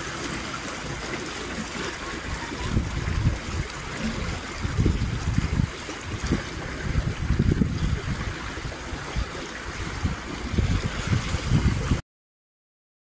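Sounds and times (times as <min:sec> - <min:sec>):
water rushing past boat: 0:00.0 - 0:12.0.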